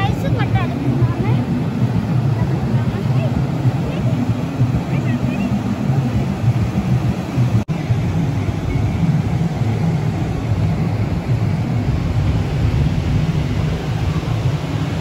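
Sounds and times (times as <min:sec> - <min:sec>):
surf breaking on a beach: 0:00.0 - 0:15.0.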